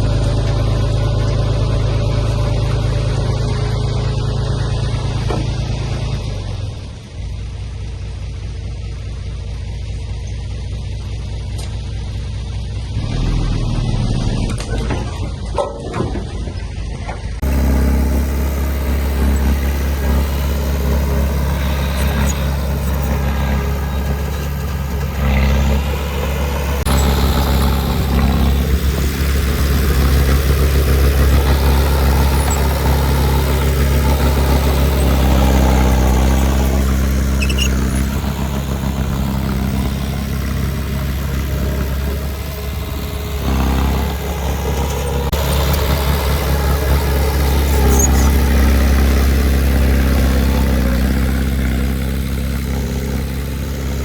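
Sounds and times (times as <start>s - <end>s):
diesel engine of heavy machine: 0.0s - 54.0s.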